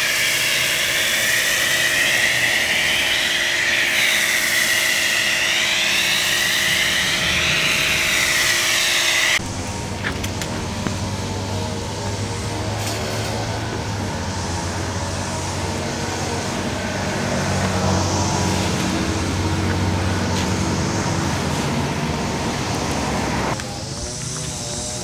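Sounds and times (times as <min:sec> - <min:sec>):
pressure washer spraying foam: 0:00.0 - 0:25.0.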